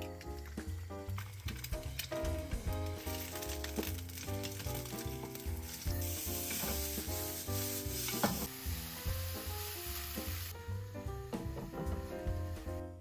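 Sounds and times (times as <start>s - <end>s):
food sizzling in a frying pan: 0.0s - 12.7s
soft background music with bass beat: 0.0s - 13.0s.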